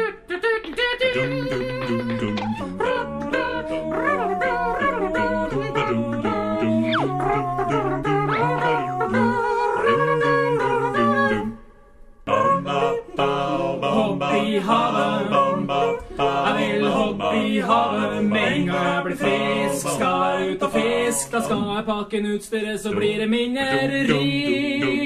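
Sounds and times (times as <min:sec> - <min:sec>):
vocal quartet singing in harmony: 0:00.0 - 0:25.0.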